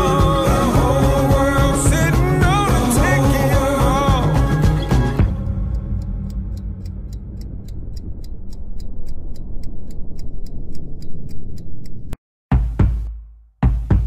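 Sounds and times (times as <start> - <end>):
fast clock-like ticking: 0.0 - 12.2
low rumbling drone: 0.0 - 12.2.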